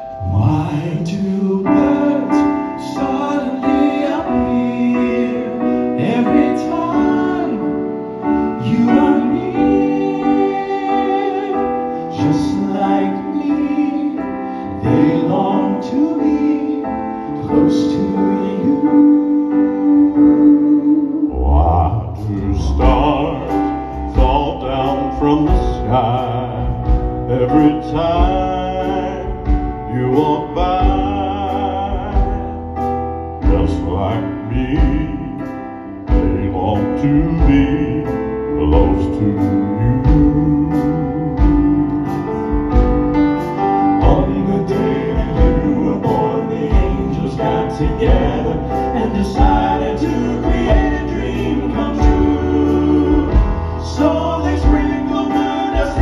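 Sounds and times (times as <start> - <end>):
male quartet singing in harmony: 0.0 - 56.0
piano: 0.0 - 56.0.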